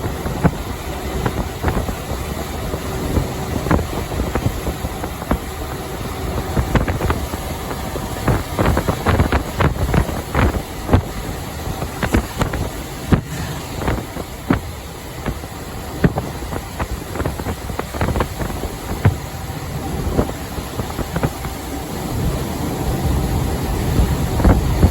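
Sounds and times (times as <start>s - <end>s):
truck driving at highway speed: 0.0s - 24.9s.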